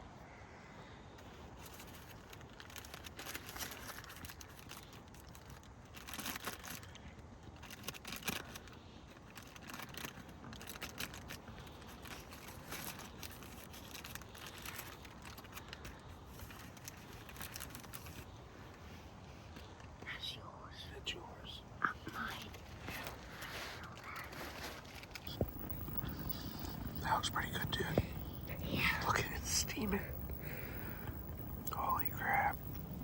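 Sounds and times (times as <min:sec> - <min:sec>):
wrappers crinkling and tearing: 0:01.2 - 0:19.8, 0:22.2 - 0:31.0.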